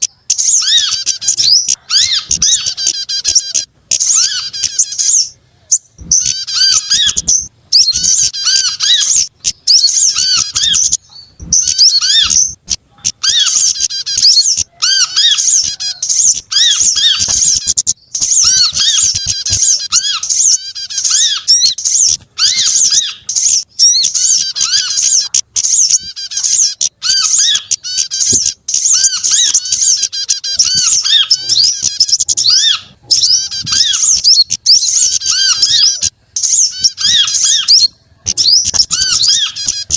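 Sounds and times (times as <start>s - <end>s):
songbirds chattering and squeaking: 0.0s - 39.9s.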